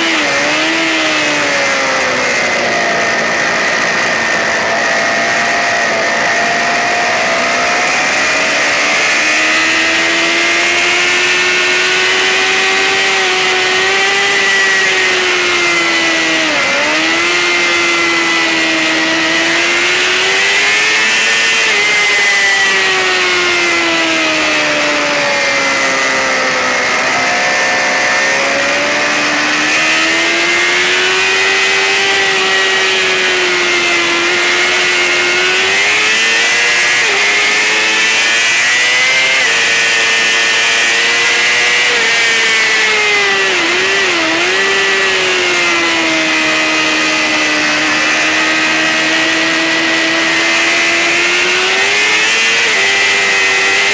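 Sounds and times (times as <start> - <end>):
motorcycle engine at high revs: 0.0 - 53.9.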